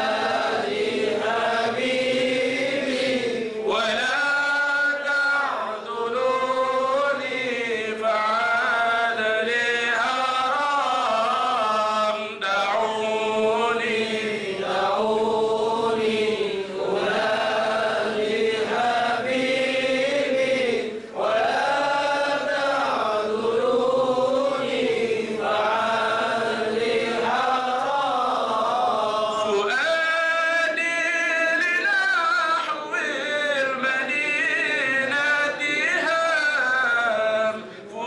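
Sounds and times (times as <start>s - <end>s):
man singing unaccompanied: 0.0s - 38.0s.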